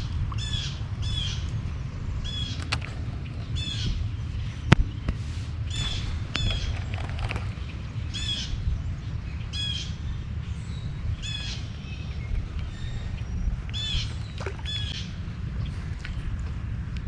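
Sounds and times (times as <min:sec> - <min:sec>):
bird calling: 0:00.0 - 0:16.4
steady low rumble: 0:00.0 - 0:17.0.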